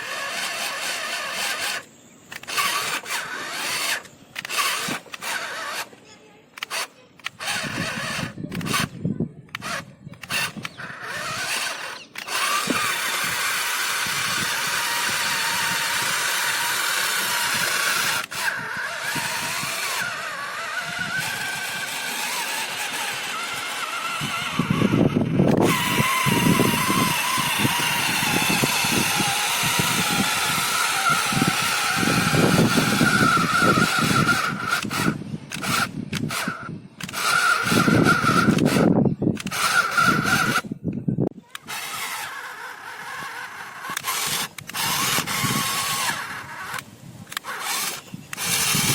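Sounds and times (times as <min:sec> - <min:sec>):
toy tractor motor whining: 0:00.0 - 0:48.9.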